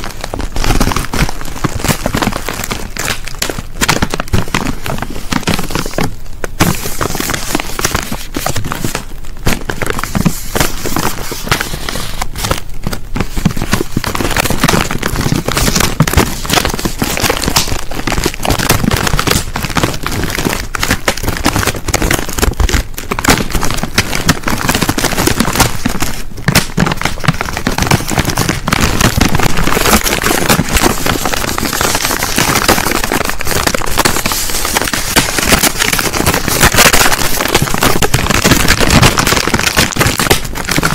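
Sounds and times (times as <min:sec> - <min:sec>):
crisp packet crinkling: 0:00.0 - 0:40.9.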